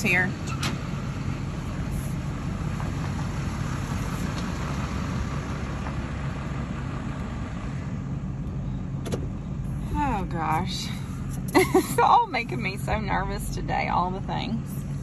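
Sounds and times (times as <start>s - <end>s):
truck engines humming: 0.0s - 15.0s.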